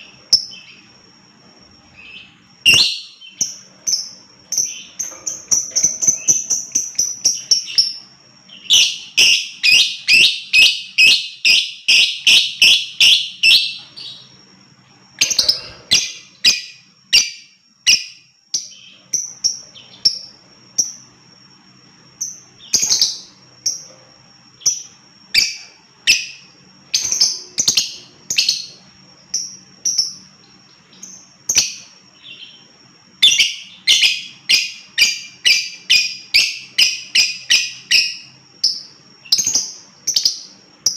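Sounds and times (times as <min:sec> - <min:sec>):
lovebird chirping: 0:00.0 - 0:01.0, 0:01.8 - 0:21.2, 0:22.0 - 0:23.9, 0:24.5 - 0:40.9.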